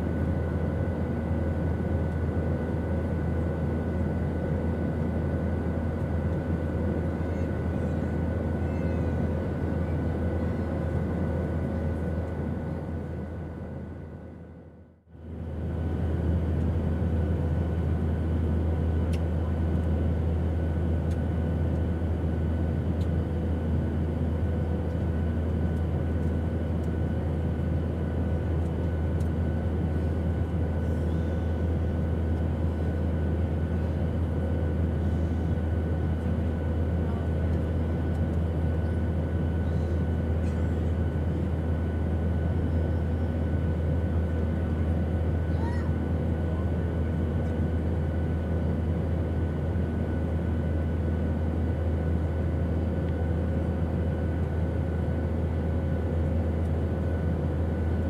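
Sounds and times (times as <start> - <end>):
airplane engine drone: 0.0 - 58.0.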